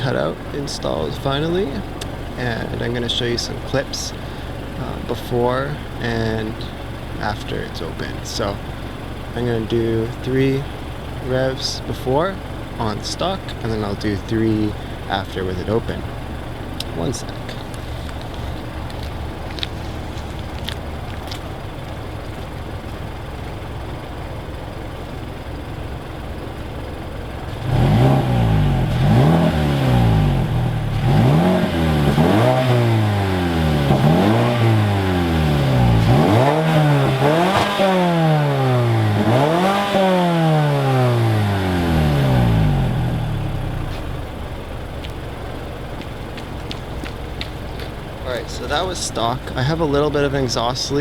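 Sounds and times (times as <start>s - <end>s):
car engine idling and revving: 0.0s - 51.0s
exhaust leak: 0.0s - 51.0s.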